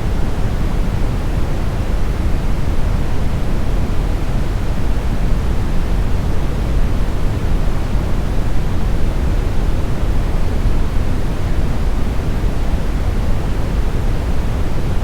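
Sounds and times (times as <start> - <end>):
brown noise hiss: 0.0 - 15.0.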